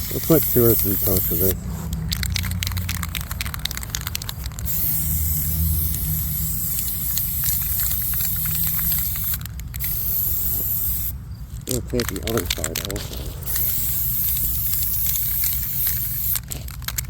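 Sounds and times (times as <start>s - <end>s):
spray paint hissing: 0.0s - 16.7s
spray can clicks: 0.4s - 11.1s, 12.0s - 17.0s.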